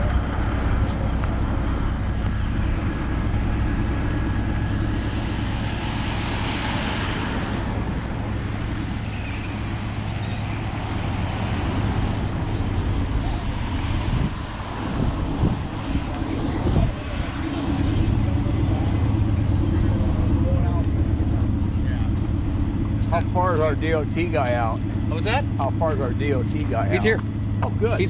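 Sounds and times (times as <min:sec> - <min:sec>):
road and wind noise: 0:00.0 - 0:28.0
truck engine droning: 0:00.0 - 0:28.0.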